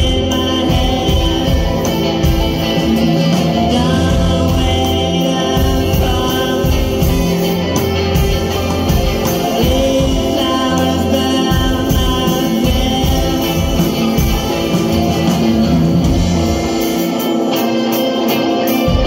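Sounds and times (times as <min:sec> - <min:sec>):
drums: 0:00.0 - 0:19.0
guitar: 0:00.0 - 0:19.0
person singing: 0:00.0 - 0:19.0.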